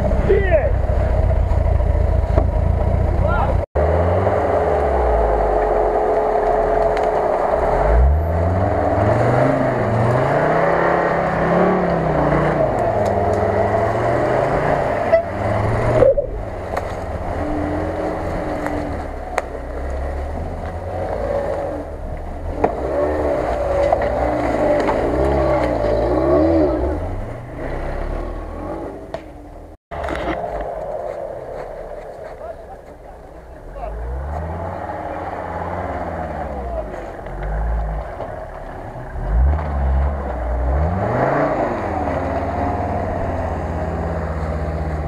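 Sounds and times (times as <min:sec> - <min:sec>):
car engine revving unevenly: 0:00.0 - 0:45.0
off-road engine revving: 0:00.0 - 0:45.0.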